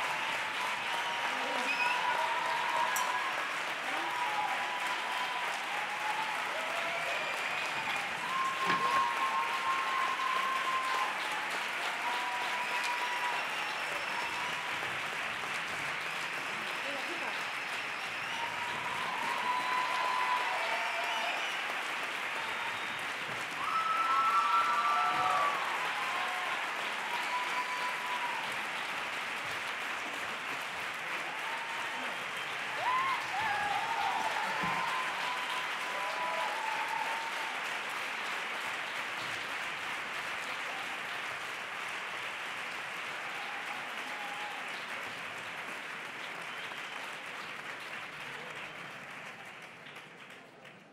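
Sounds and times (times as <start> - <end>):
audience applauding: 0.0 - 50.9.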